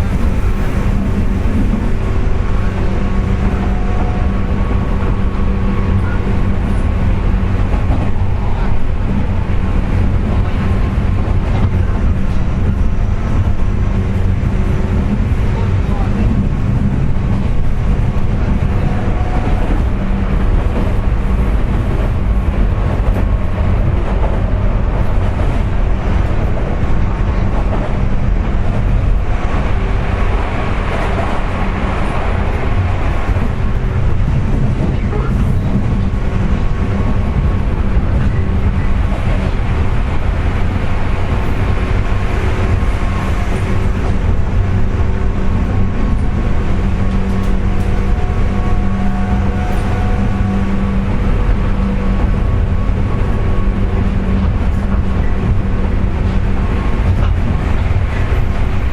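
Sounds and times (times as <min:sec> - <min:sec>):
wheel and rail rumble: 0:00.0 - 0:58.9.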